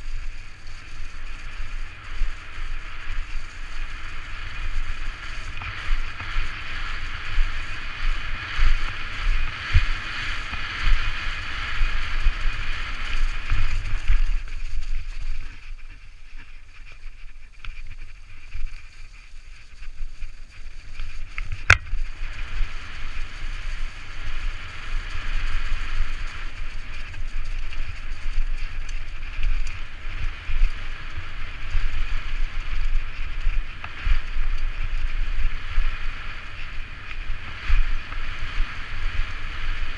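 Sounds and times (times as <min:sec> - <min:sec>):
mountain bike rumbling and rattling: 0:00.0 - 0:39.9
wind rushing over microphone: 0:00.0 - 0:39.9.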